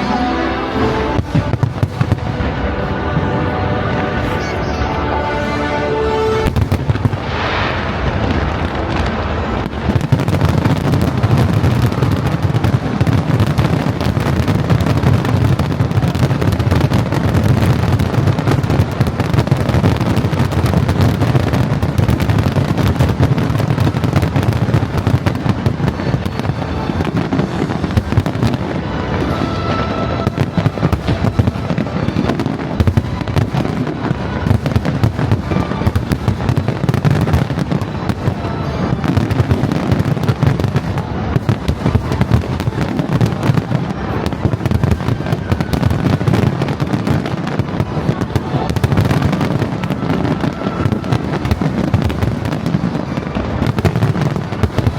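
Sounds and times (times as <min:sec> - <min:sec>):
fireworks crackling and booming: 0:00.0 - 0:54.9.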